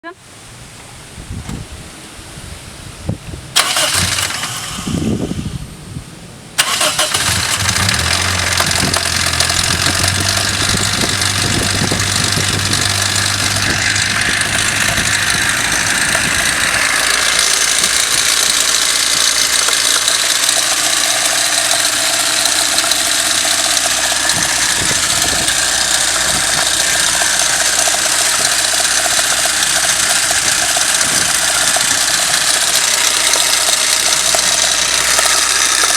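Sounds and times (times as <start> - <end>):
car engine starting: 3.2 - 35.9
engine idling with knock: 7.0 - 35.9.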